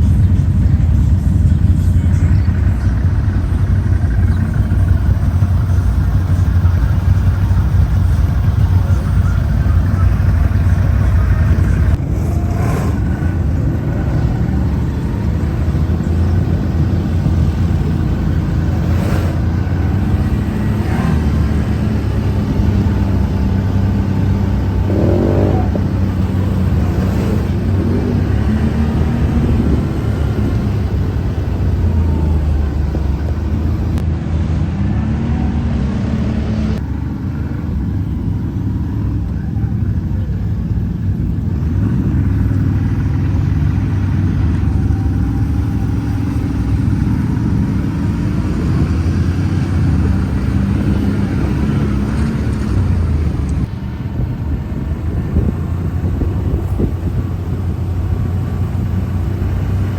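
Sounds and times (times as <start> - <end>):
off-road atv engine running: 0.0 - 59.9.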